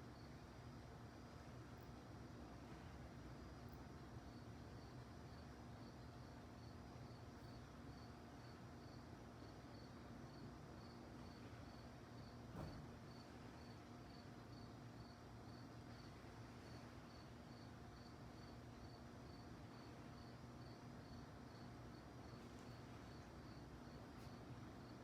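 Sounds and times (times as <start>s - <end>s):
crickets chirping: 0.0s - 2.1s, 2.8s - 25.0s
steady low hum: 0.0s - 25.0s.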